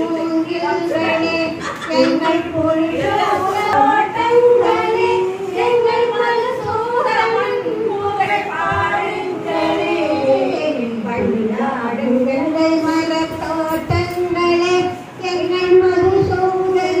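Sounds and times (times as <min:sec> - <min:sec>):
elderly woman singing: 0:00.0 - 0:17.0.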